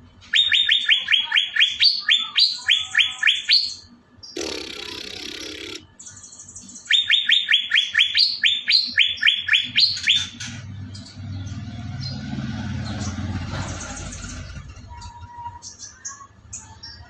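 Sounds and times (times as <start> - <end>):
songbird singing: 0.2 - 17.0.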